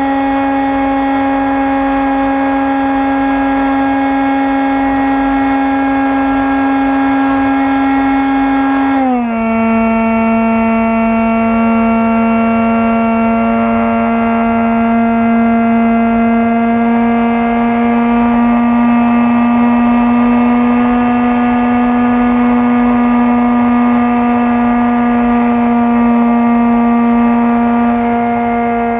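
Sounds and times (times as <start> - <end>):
electric motor and propeller whine: 0.0 - 28.9.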